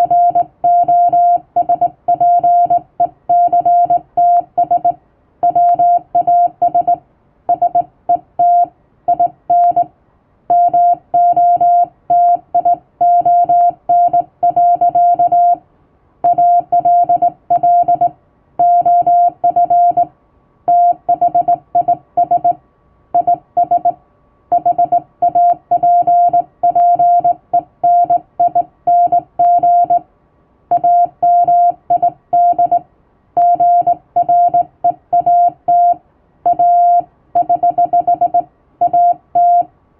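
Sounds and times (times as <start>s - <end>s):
morse code beeps: 0.0s - 9.9s, 10.5s - 15.6s, 16.2s - 20.1s, 20.7s - 22.6s, 23.2s - 30.0s, 30.7s - 32.8s, 33.4s - 39.7s.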